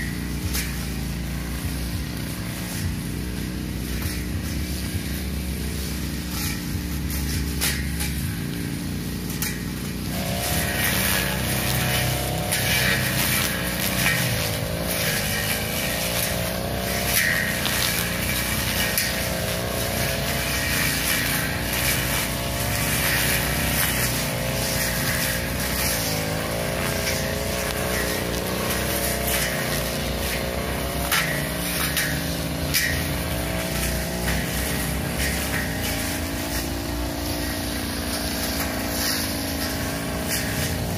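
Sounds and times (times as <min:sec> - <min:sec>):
blade cutting through grass: 0:00.0 - 0:40.9
brush cutter engine running: 0:00.0 - 0:40.9.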